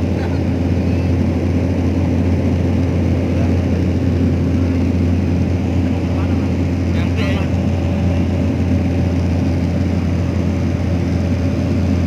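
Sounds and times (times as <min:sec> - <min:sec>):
propeller airplane cabin drone: 0:00.0 - 0:12.0.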